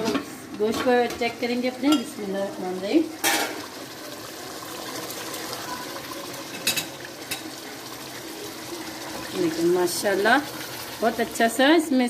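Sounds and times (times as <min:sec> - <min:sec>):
curry bubbling in pot: 0:01.6 - 0:11.7.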